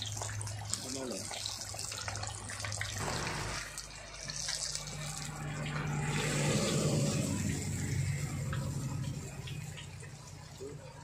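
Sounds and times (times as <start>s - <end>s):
hot oil sizzling and bubbling: 0.0s - 11.0s.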